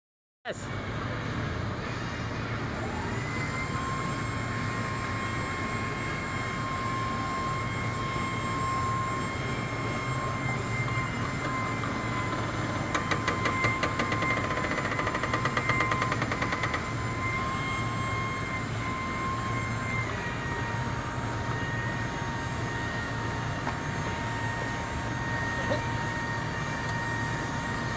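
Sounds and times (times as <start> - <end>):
hydraulic boom whine: 0.7 - 27.9.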